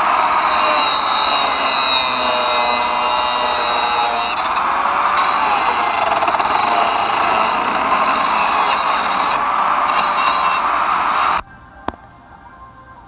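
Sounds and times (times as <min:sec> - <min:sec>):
angle grinder cutting metal: 0:00.0 - 0:11.4.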